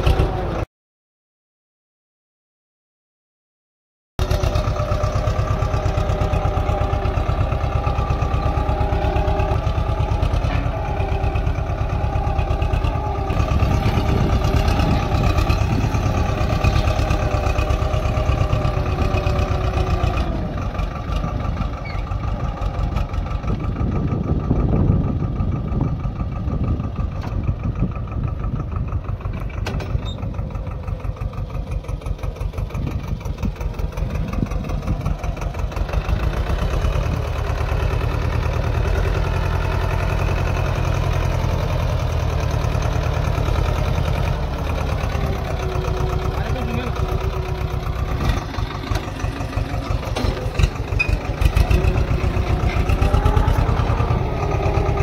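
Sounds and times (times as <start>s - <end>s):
tractor diesel engine under load: 0.0s - 0.7s, 4.2s - 55.0s.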